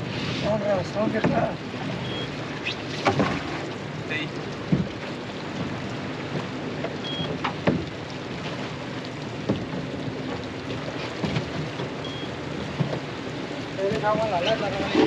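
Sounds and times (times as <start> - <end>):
boat motor running: 0.0 - 15.0
water noise: 0.0 - 15.0.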